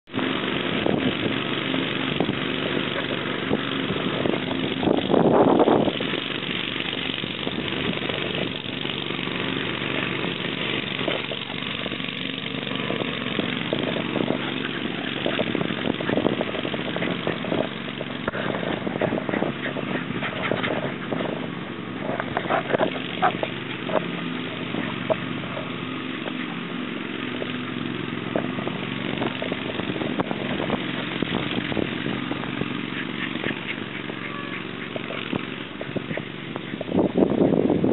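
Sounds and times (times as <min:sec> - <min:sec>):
small engine running: 0:00.0 - 0:37.9.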